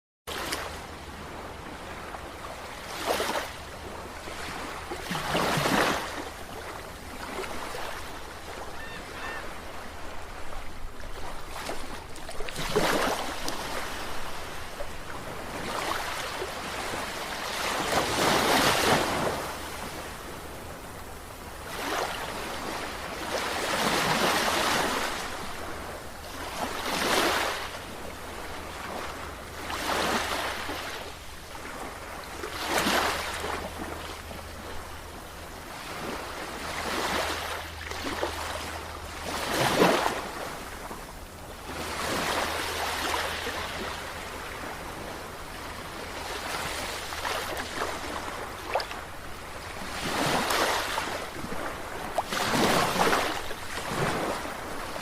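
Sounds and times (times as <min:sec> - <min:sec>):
sea waves breaking: 0:00.3 - 0:55.0.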